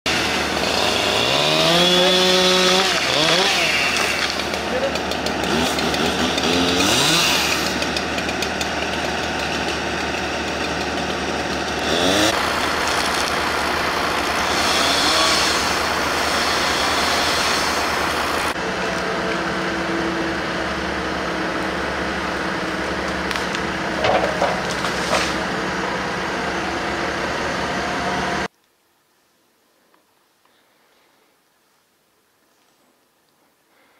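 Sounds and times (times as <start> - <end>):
excavator diesel engine running: 0.1 - 28.5.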